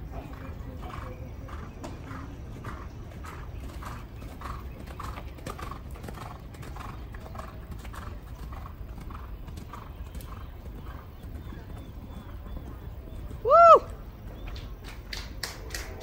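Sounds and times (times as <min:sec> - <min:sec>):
hoofbeats on sand: 0:00.0 - 0:13.6.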